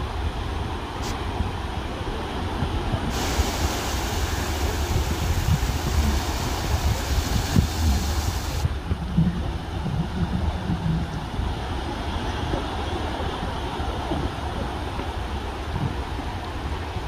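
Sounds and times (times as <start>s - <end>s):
small waves washing on sand: 0.0s - 17.0s
wind rumbling on microphone: 0.0s - 17.0s.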